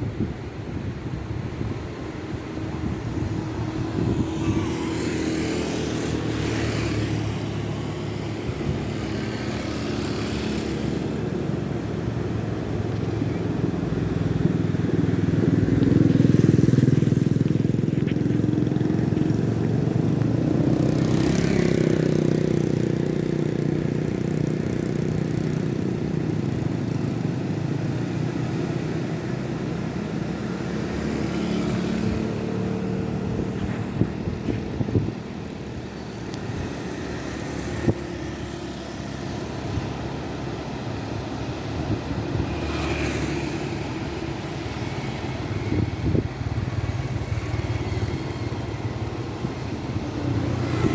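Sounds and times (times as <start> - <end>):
boat engines running: 1.1 - 42.5, 43.4 - 50.9.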